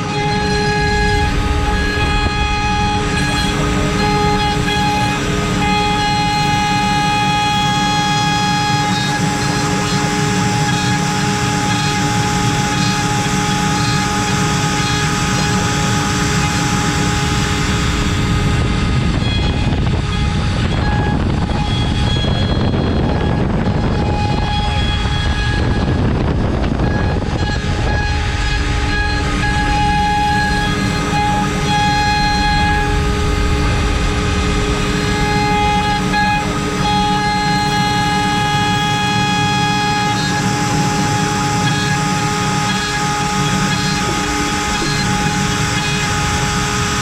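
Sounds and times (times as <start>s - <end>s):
cutter cutting through wood: 0.0s - 47.0s
router spindle whine: 0.0s - 47.0s.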